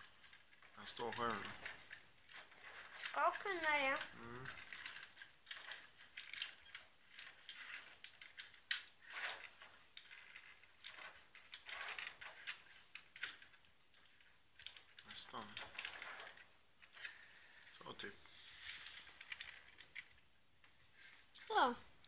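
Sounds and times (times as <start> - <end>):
toy parts clicking and rattling: 0.0 - 20.2.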